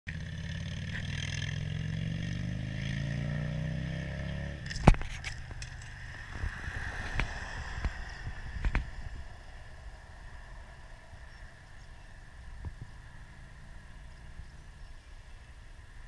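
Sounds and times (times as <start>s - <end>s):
vehicle engine running: 0.1s - 16.0s.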